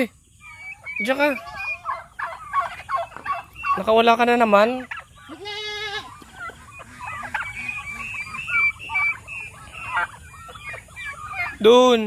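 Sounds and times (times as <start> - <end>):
high chirps and peeps: 0.0 - 12.0.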